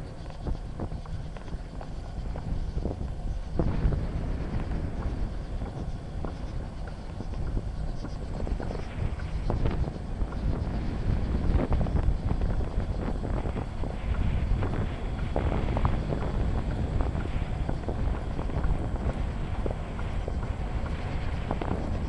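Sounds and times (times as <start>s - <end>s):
bicycle tyres rumbling: 0.0s - 22.0s
wind on microphone: 0.0s - 22.0s.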